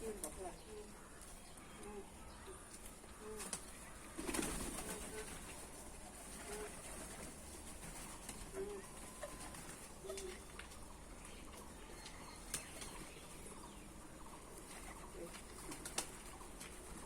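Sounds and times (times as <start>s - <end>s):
pigeons cooing: 1.7s - 17.0s.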